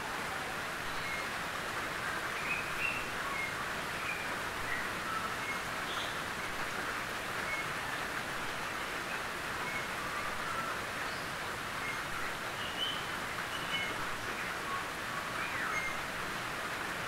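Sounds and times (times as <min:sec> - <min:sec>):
rain on a tin roof: 0:00.0 - 0:17.0.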